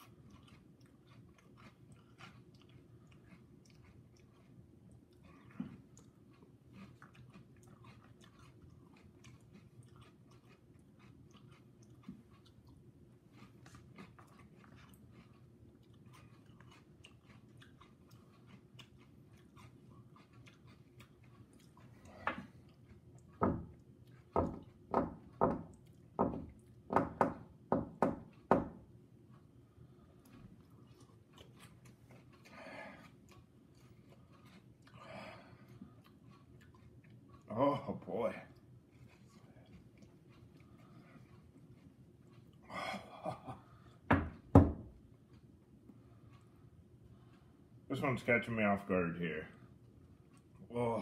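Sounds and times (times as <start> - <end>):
person chewing crunchy cereal: 0.0 - 26.9, 28.3 - 48.3, 49.5 - 51.0.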